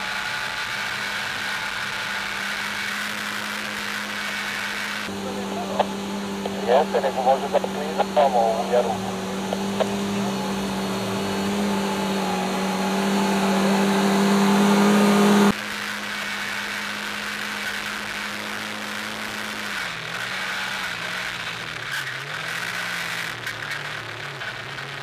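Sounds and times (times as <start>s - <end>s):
off-road engine at high revs: 0.0s - 25.0s.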